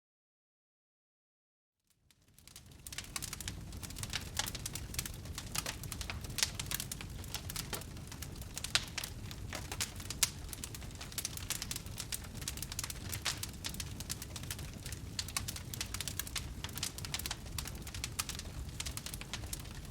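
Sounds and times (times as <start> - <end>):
fire crackling and popping: 2.0 - 19.9
low rumble of flames: 2.1 - 19.9.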